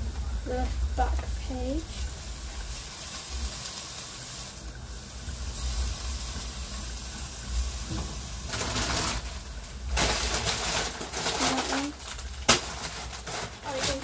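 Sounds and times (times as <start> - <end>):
food frying in a pan: 0.0 - 14.0.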